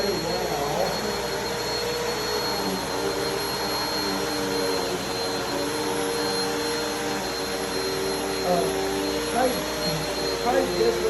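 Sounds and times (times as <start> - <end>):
vacuum cleaner on carpet: 0.0 - 11.0.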